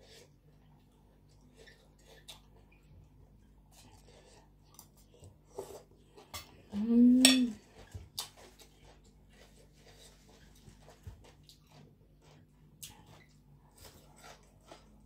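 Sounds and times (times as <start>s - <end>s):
chewing: 0.0s - 6.7s, 7.5s - 15.0s.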